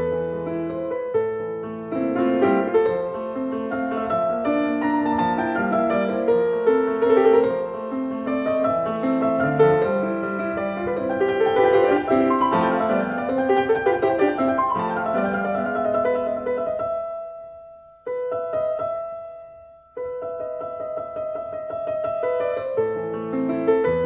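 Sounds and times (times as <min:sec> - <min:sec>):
piano melody: 0:00.0 - 0:24.0.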